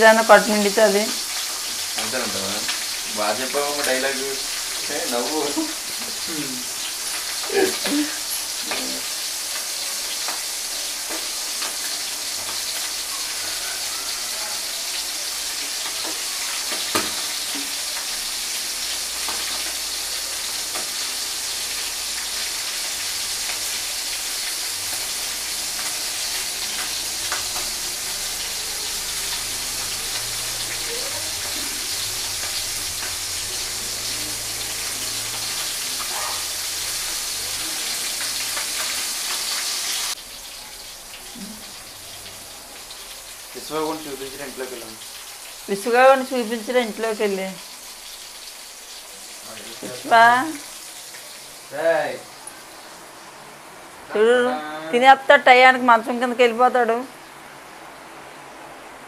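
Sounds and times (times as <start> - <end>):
fish deep-frying sizzle: 0.0 - 59.0.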